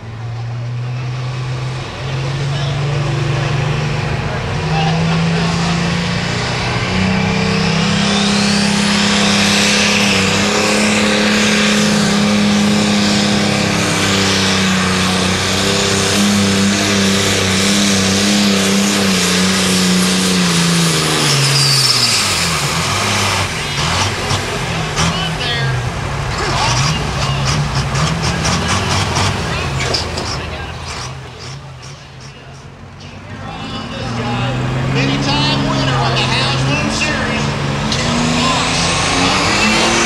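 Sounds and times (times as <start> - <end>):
diesel tractor engine revving: 0.0 - 40.0.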